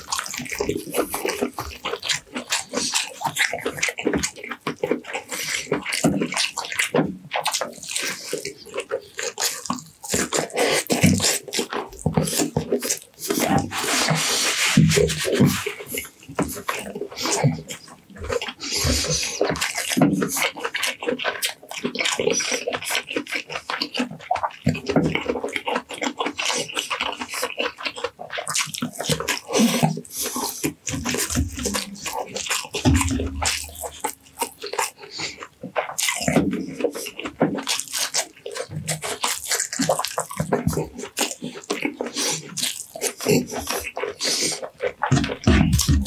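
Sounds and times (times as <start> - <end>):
fingers pulling at sticky meat: 0.0 - 46.0
wet chewing and lip-smacking: 0.0 - 46.0.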